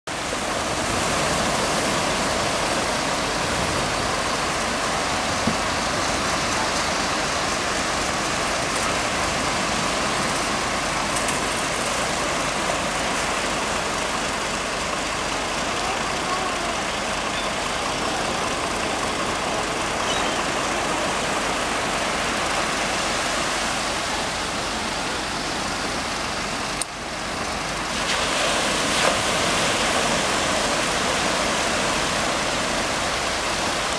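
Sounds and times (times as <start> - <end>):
ocean surf breaking on beach: 0.1 - 33.9.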